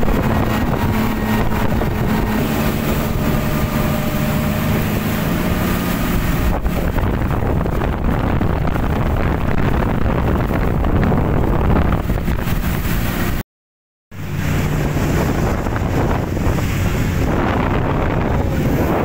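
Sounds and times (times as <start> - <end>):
outboard motors running: 0.0 - 13.4, 14.2 - 19.0
rushing water from hull: 0.0 - 13.4, 14.1 - 19.0
wind on microphone: 0.0 - 13.4, 14.2 - 19.0.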